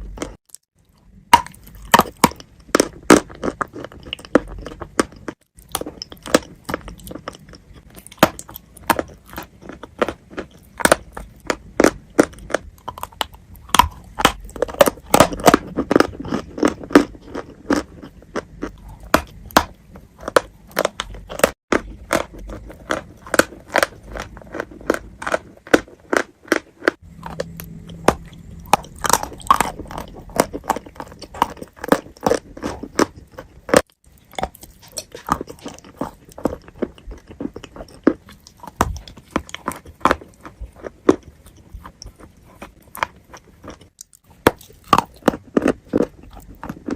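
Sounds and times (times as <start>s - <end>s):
chewing crunchy chalk: 1.3s - 46.9s.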